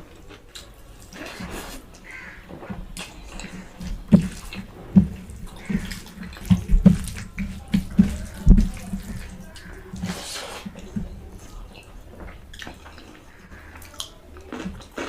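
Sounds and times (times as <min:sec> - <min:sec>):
chewing and lip-smacking: 0:00.1 - 0:02.1, 0:03.0 - 0:15.0.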